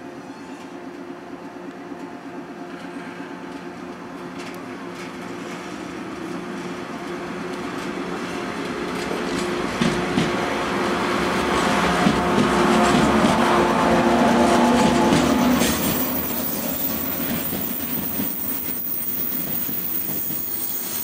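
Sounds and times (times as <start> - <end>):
train wheel noise: 0.0 - 21.0.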